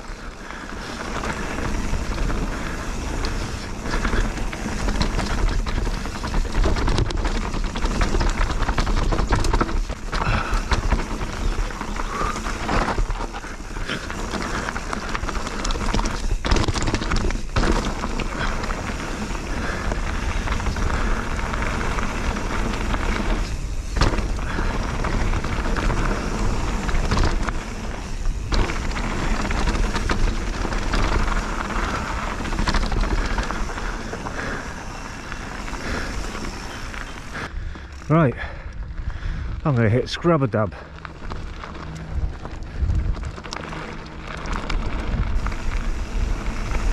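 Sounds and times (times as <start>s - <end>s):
wind buffeting microphone: 0.0s - 40.1s, 40.9s - 46.9s
tyres rolling over gravel: 0.0s - 46.9s
bike knocks and rattles: 0.3s - 38.5s.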